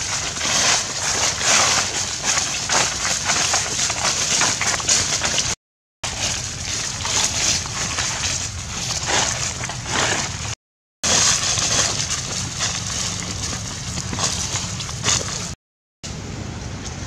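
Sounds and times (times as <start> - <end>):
footsteps on dry leaves: 0.0 - 15.6.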